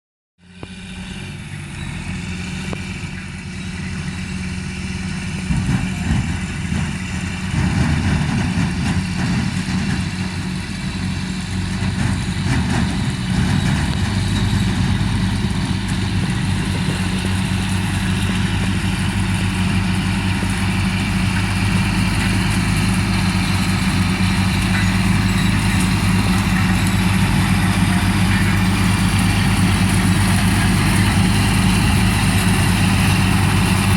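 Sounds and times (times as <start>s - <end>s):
diesel engine running: 0.4s - 33.9s.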